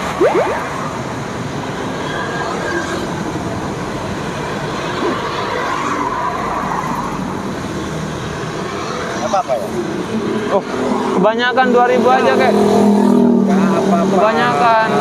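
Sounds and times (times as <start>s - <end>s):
motorbikes and cars passing: 0.0s - 15.0s.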